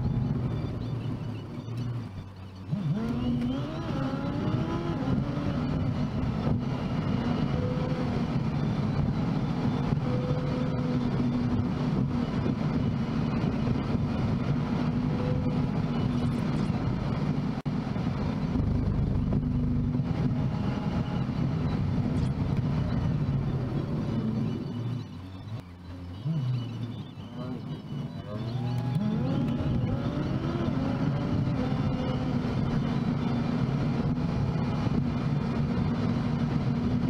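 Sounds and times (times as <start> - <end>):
car engine and tyre noise: 0.0 - 37.0.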